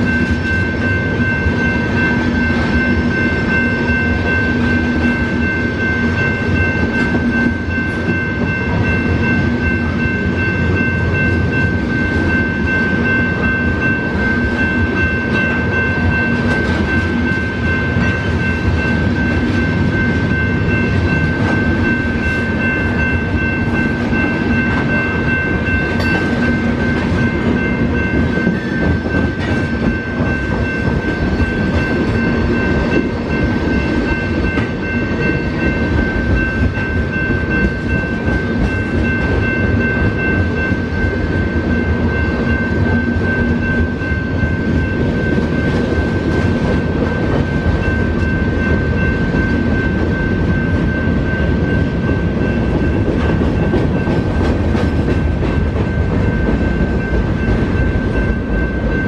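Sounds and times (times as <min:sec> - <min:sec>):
high-pitched ringing tone: 0:00.0 - 0:59.0
train wheels rumbling on rails: 0:00.0 - 0:59.0.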